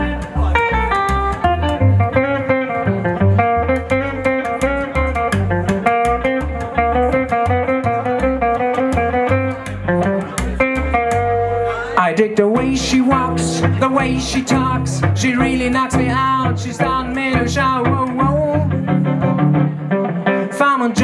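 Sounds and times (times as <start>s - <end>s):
bass line: 0.0s - 20.2s
guitar melody: 0.0s - 21.0s.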